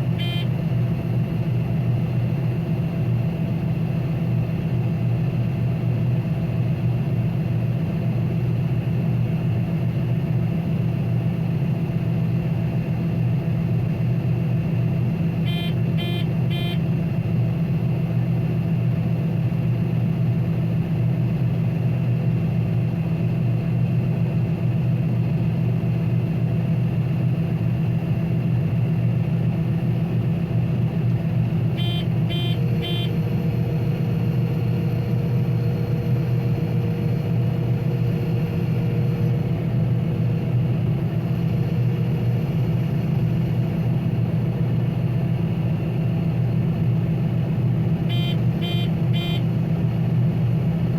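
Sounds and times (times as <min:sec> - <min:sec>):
combine harvester drone: 0:00.0 - 0:50.9.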